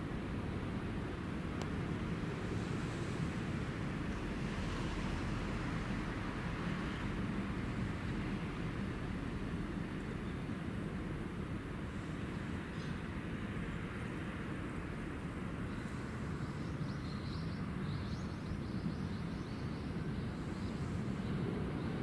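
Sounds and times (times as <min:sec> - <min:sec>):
rail traffic rumble: 0:00.0 - 0:22.0.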